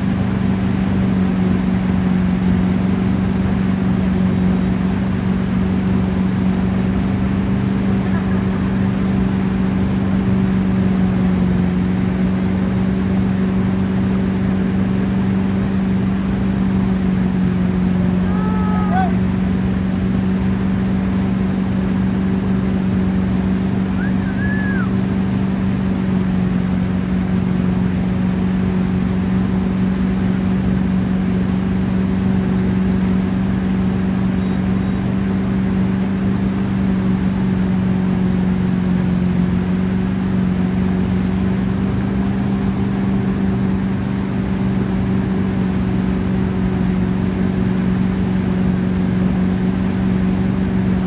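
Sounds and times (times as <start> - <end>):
boat engine humming: 0.0 - 51.0.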